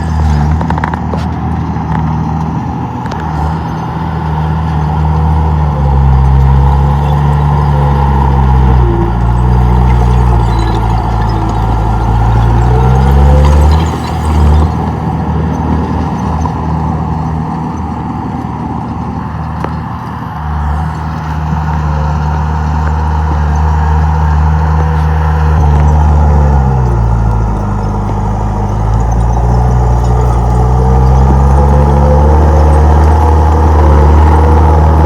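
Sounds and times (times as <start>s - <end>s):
bulldozer diesel engine working: 0.0s - 35.0s.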